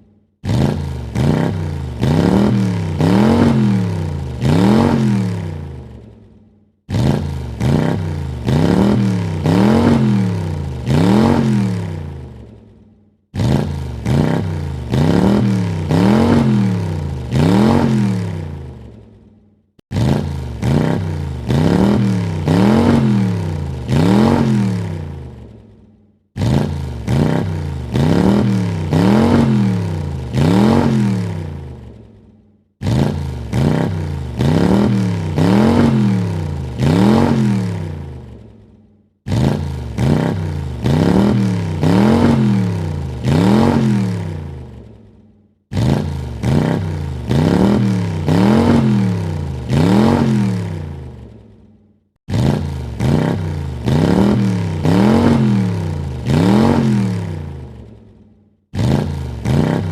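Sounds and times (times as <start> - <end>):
car engine revving: 0.4 - 6.2, 6.9 - 12.6, 13.3 - 19.1, 19.9 - 25.8, 26.4 - 32.2, 32.8 - 38.6, 39.3 - 45.0, 45.7 - 51.4, 52.3 - 58.0, 58.8 - 59.9.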